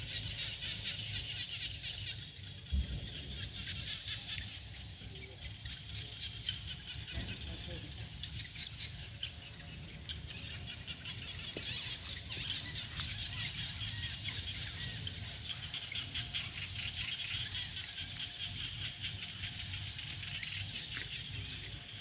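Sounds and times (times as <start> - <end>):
bird chirps: 0.0 - 22.0
high buzzing insect chorus: 0.0 - 22.0.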